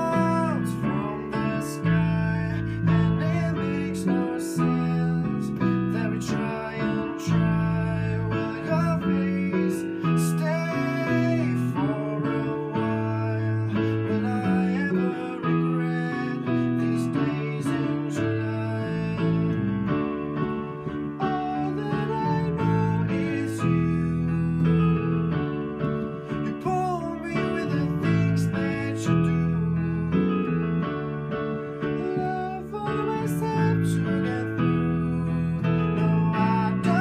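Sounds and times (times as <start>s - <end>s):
electric keyboard playing: 0.0s - 37.0s
man singing: 0.0s - 37.0s.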